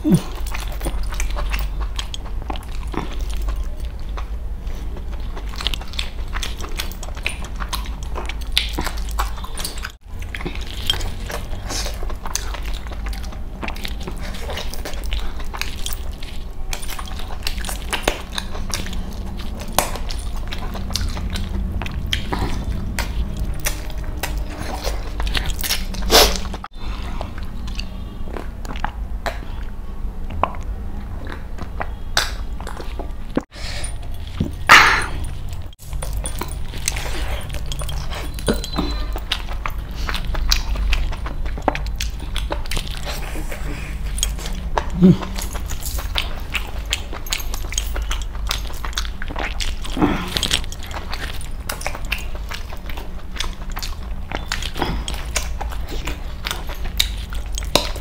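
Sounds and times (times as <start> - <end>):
chewing and smacking: 0.0 - 58.0.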